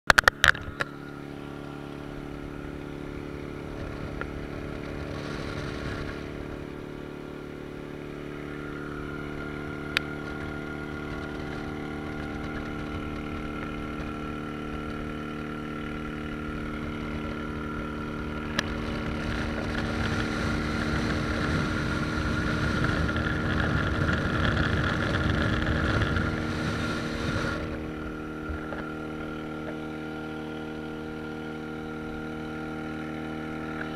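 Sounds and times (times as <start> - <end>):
tyre and road noise: 0.1 - 30.8
car engine drone: 0.1 - 33.9.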